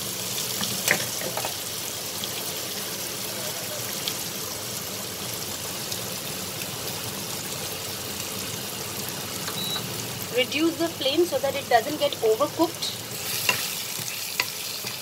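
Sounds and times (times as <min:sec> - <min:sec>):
potatoes and onion frying in oil: 0:00.0 - 0:15.0.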